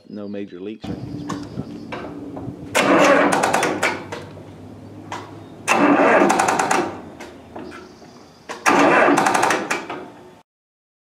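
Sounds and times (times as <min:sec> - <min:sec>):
diesel engine cranking: 0:00.9 - 0:10.2.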